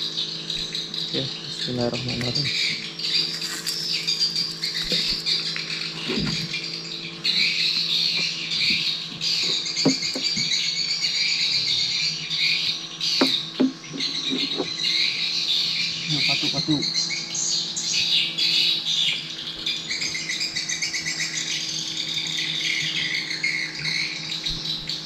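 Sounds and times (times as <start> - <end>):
insects and birds chorus: 0.0 - 25.0.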